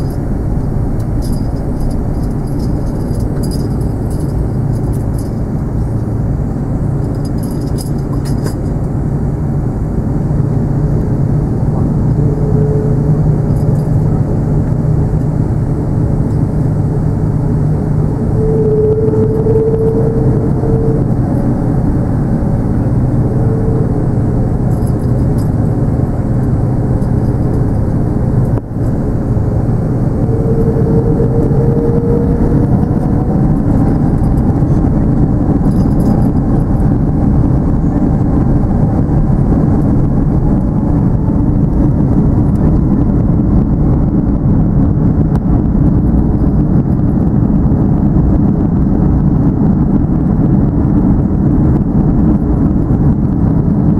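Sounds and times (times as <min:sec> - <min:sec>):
faint rising whine: 0:00.0 - 0:47.0
jet engines roaring in cabin: 0:00.0 - 0:53.9.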